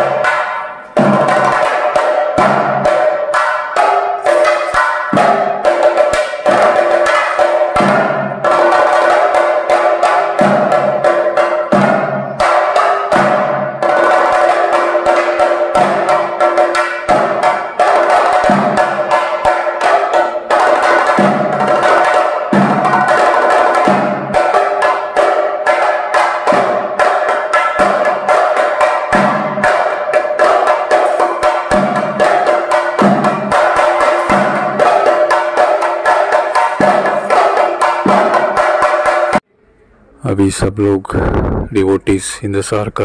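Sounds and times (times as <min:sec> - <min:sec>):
drums beaten fast with sticks: 0:00.0 - 0:39.4.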